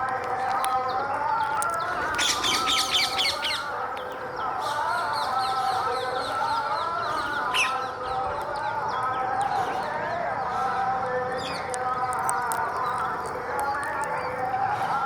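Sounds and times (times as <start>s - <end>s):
birds chattering and chirping: 0.0s - 15.0s.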